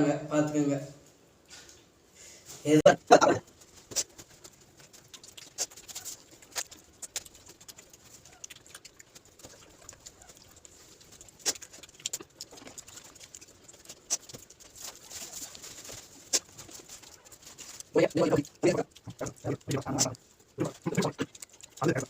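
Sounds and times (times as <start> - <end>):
chewing clicks and smacks: 3.4 - 22.0.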